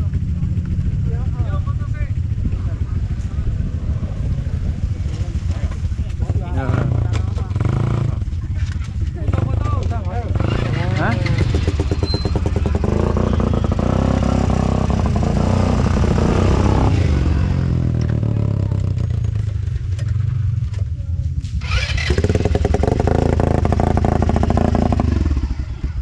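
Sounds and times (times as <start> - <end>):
atv engine revving: 0.0 - 20.8, 21.4 - 26.0.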